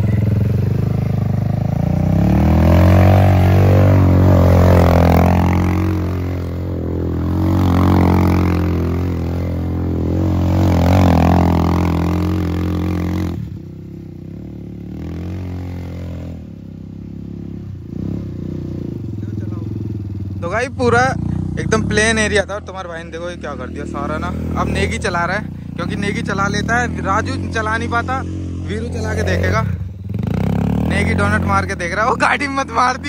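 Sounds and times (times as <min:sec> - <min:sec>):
atv engine revving: 0:00.0 - 0:33.0.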